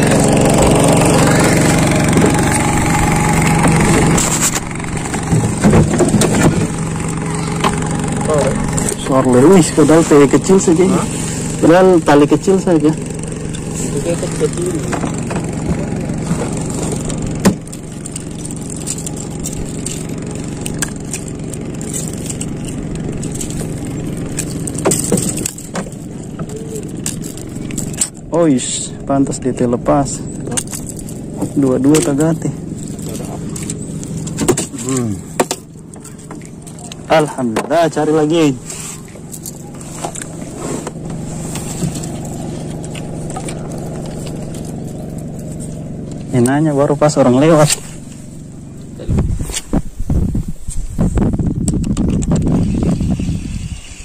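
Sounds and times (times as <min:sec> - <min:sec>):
boat engine idling: 0:00.0 - 0:50.1.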